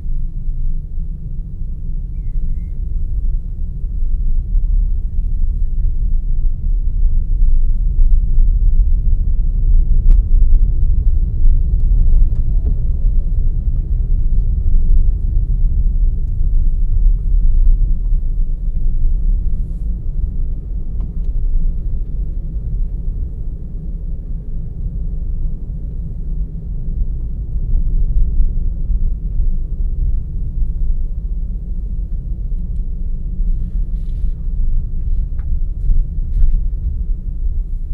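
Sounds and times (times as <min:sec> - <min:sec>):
car engine and road rumble: 0:00.0 - 0:37.9.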